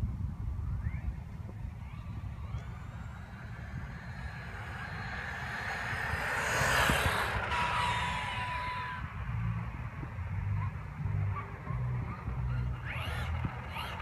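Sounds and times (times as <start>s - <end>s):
wind on camera: 0.0s - 14.0s
electric motor whining: 0.8s - 14.0s
tyres rumbling on pavement: 2.0s - 14.0s.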